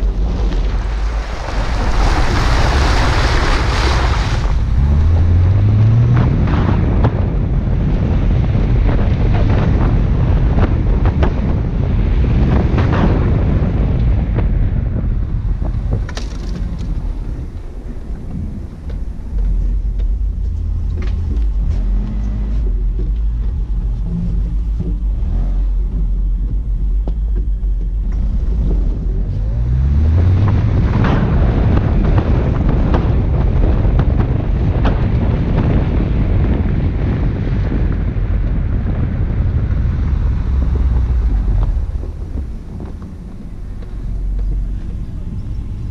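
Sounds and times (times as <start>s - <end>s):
car rumble on dirt road: 0.0s - 45.9s
wind buffeting microphone: 0.0s - 45.9s.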